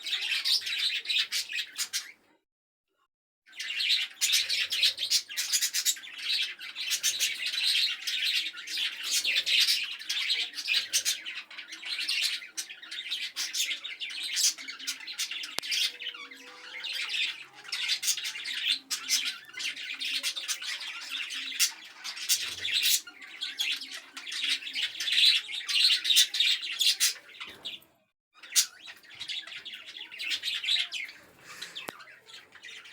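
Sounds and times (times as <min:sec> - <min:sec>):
budgerigars chattering and squawking: 0:00.0 - 0:02.2, 0:03.5 - 0:27.8, 0:28.4 - 0:32.9.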